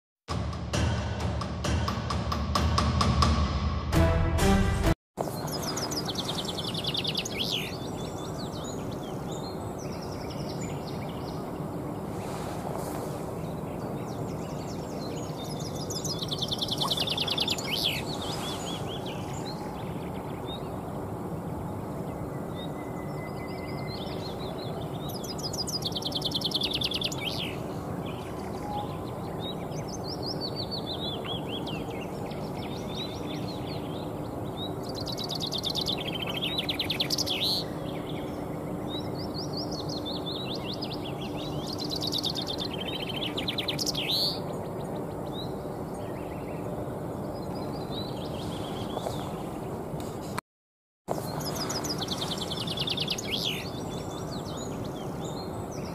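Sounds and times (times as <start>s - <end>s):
chaffinch singing: 5.2s - 12.2s, 13.3s - 49.8s, 51.1s - 55.9s
steady background noise: 5.2s - 50.4s.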